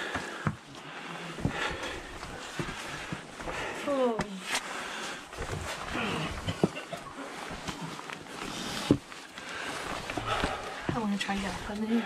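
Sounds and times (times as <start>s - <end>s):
laboured breathing: 0.0s - 11.0s
clothing rustling: 1.4s - 12.0s.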